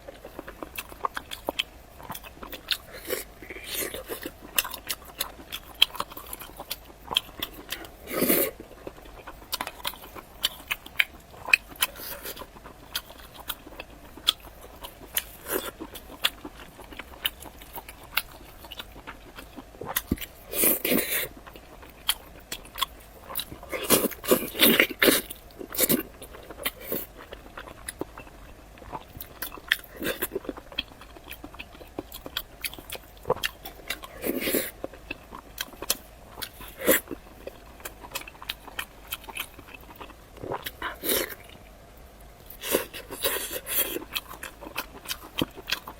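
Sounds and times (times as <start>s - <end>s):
crunchy chewing: 0.0s - 41.8s, 42.4s - 45.9s.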